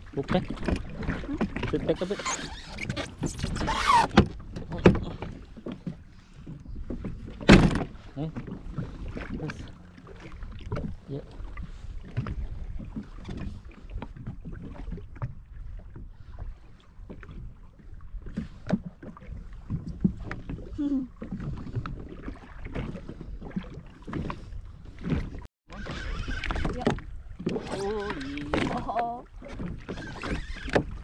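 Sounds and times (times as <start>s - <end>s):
water lapping against hull: 0.0s - 31.0s.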